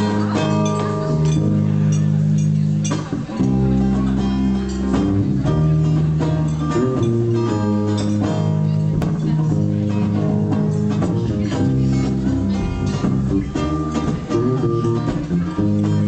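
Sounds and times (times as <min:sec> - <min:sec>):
acoustic guitar strumming chords: 0:00.0 - 0:16.0
electric bass guitar: 0:00.0 - 0:16.0.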